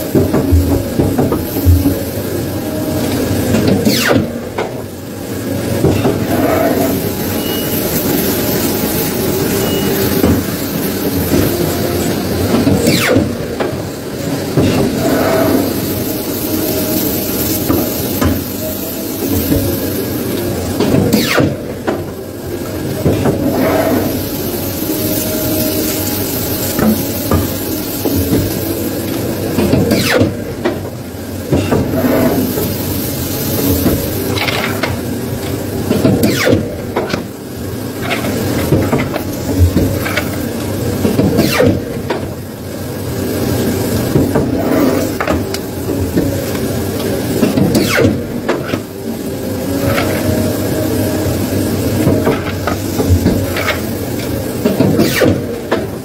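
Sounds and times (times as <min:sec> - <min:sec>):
machine hiss and hum: 0:00.0 - 0:56.0.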